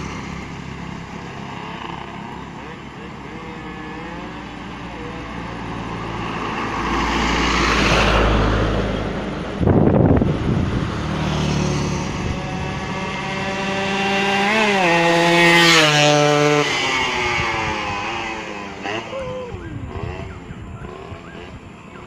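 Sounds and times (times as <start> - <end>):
two-stroke engine revving: 0.0 - 9.1, 10.2 - 22.0.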